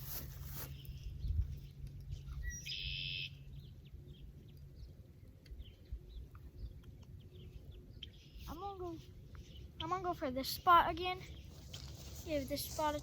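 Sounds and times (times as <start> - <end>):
birds chirping: 0.7 - 12.9.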